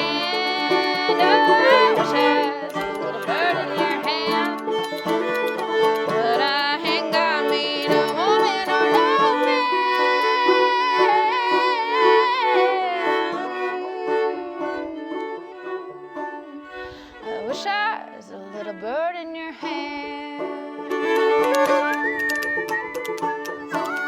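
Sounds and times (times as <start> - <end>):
banjo playing: 0.0 - 15.2, 19.6 - 24.0
fiddle melody: 0.0 - 24.0.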